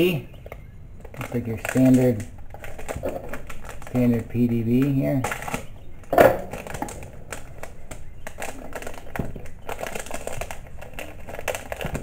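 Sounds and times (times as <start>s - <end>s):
plastic bags crinkling: 1.0s - 12.0s.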